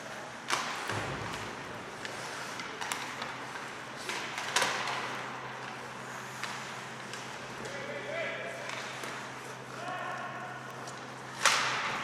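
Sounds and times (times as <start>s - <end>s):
hockey sticks and puck knocks: 0.2s - 7.9s, 8.5s - 12.0s.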